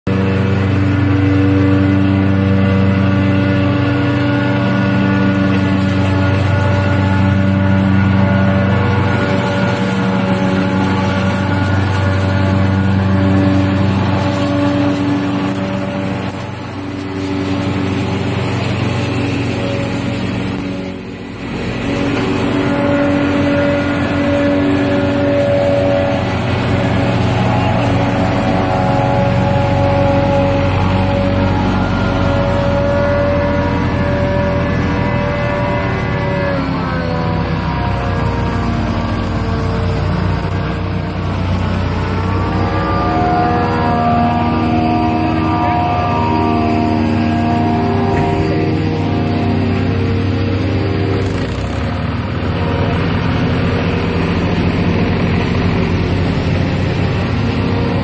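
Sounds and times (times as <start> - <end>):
tractor engines working hard: 0.0 - 58.0
maize chopper running: 0.1 - 58.0.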